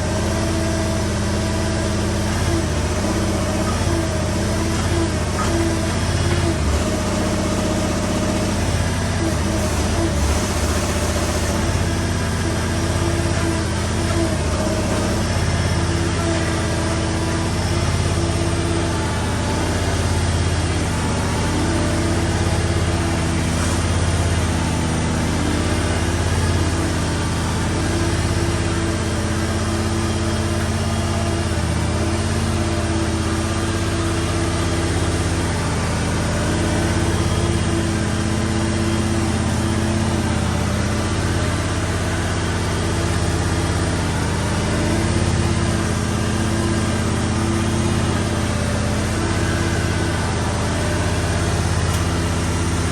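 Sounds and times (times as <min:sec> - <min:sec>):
engine running steadily: 0:00.0 - 0:52.9.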